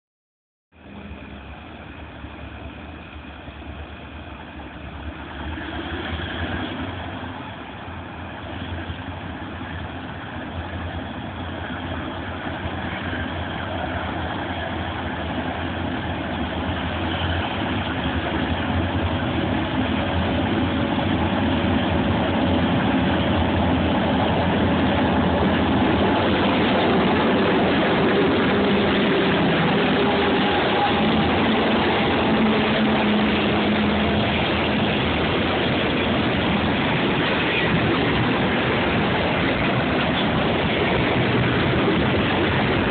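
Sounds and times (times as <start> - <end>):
freight train engine rumble: 0.7 - 42.9.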